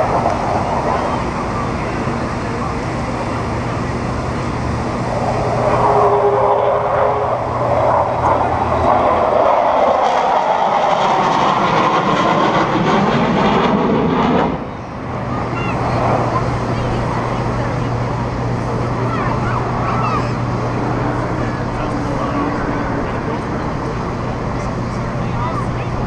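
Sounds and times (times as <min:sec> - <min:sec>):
jet aircraft roar flying past: 0:00.0 - 0:26.0.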